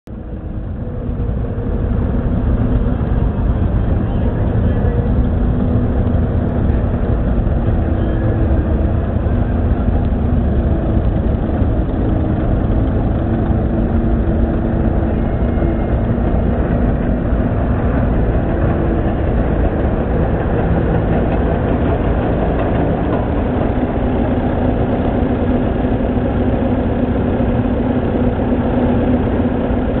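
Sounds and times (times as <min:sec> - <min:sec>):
tractor engines rumbling: 0:00.0 - 0:30.0.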